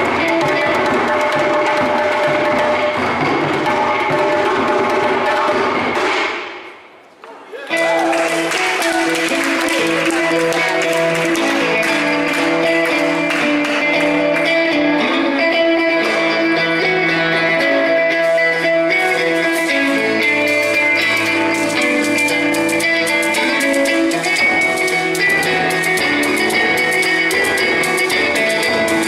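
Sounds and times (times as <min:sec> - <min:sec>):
electric guitar long ringing notes: 0:00.0 - 0:05.7, 0:07.7 - 0:29.0.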